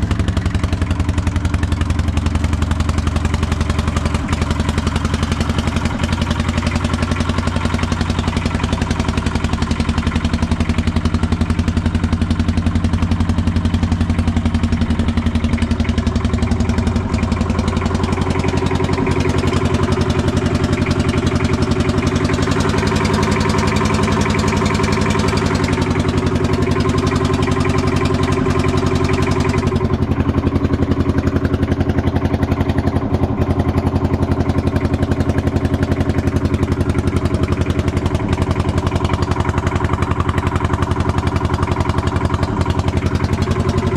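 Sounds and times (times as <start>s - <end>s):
skid steer engine running: 0.0s - 43.9s.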